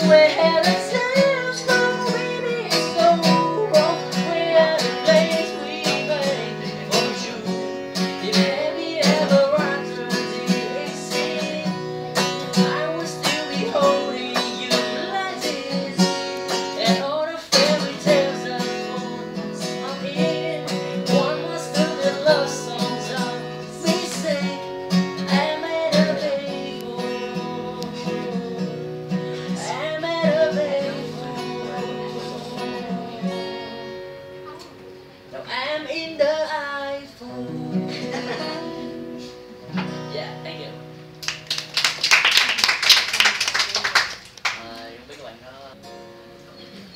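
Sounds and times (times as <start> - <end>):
acoustic guitar playing pop song: 0.0 - 43.5, 45.7 - 46.9.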